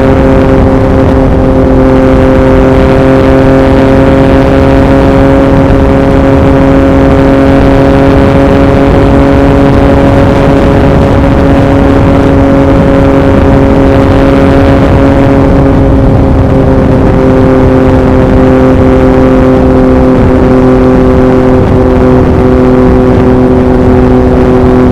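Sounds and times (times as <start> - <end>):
motorcycle engine cruising: 0.0 - 24.9
wind noise on microphone: 0.0 - 24.9.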